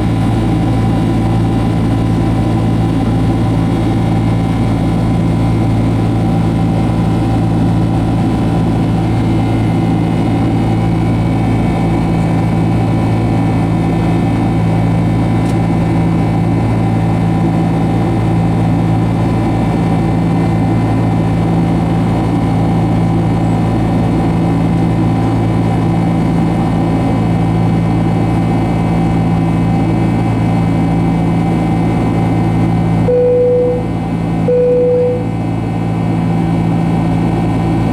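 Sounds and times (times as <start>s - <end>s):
jet engine drone in cabin: 0.0s - 37.9s.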